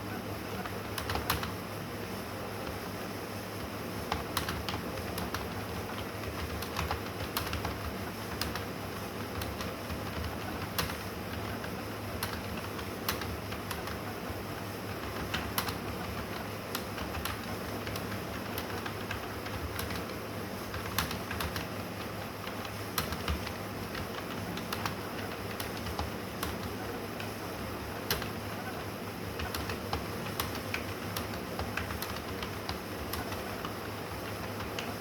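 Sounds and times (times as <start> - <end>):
computer keyboard typing: 0.6 - 1.6, 4.1 - 14.1, 15.0 - 27.4, 28.0 - 35.0.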